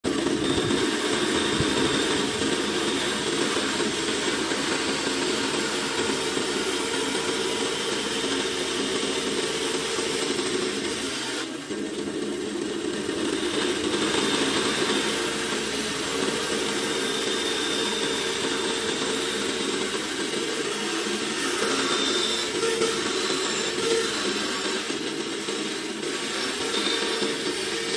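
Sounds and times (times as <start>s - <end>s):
bandsaw cutting plywood: 0.0s - 27.9s.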